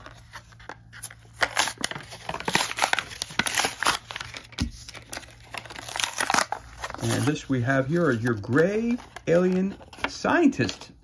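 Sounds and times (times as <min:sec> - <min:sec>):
cardboard tearing: 0:00.0 - 0:10.2
plastic blister crinkling: 0:00.0 - 0:10.9.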